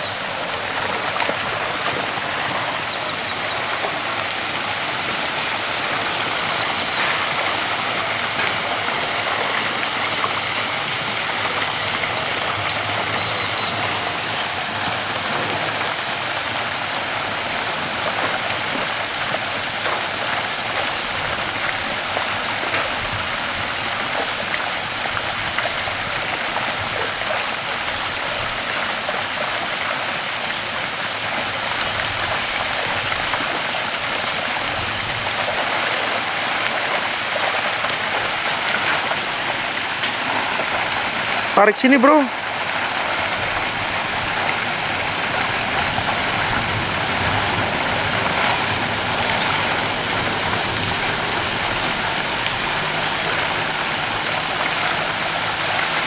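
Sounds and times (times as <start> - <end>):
stream pouring over small waterfall: 0.0 - 56.0.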